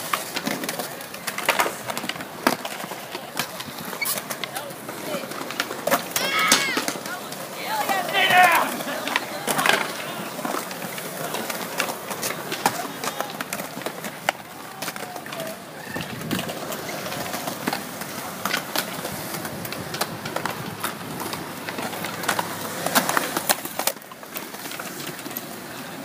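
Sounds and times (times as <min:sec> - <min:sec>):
skateboards clacking on ground: 0:00.0 - 0:26.0
wheels rolling on concrete: 0:00.0 - 0:26.0.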